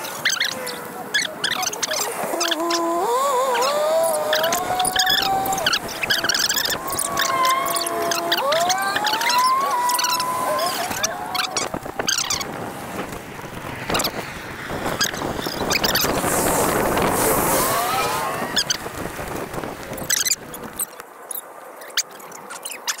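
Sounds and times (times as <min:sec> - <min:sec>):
wind buffeting the camera: 0:00.8 - 0:21.0
bicycle tyres rumbling on concrete: 0:02.3 - 0:20.8.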